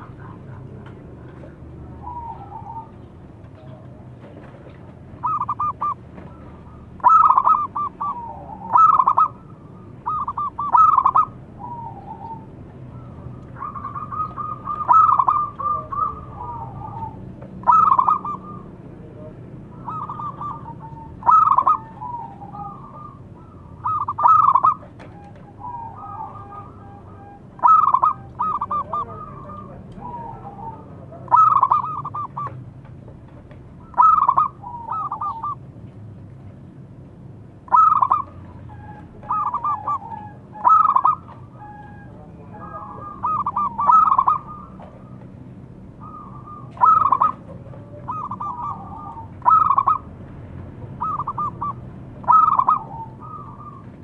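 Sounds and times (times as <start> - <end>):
dove cooing: 0.0 - 35.7, 37.6 - 54.0.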